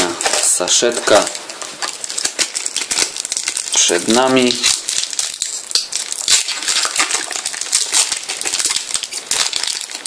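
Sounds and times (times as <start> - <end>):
foil packet crinkling and tearing: 0.0 - 10.0.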